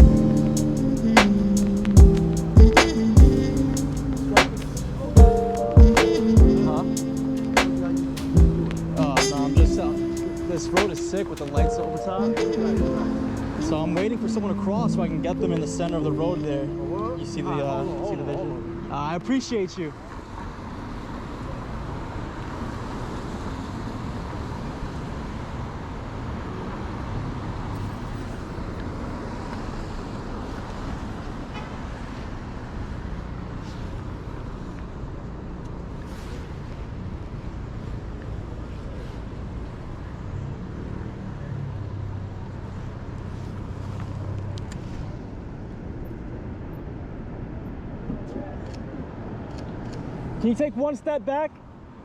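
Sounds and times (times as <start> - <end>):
passing vehicles rumbling: 0.0 - 50.9
city street traffic: 0.0 - 52.0.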